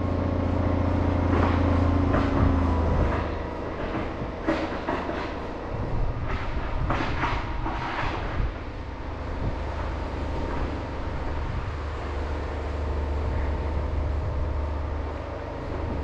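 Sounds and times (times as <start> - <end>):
diesel truck engine idling: 0.0 - 6.9, 8.3 - 16.0.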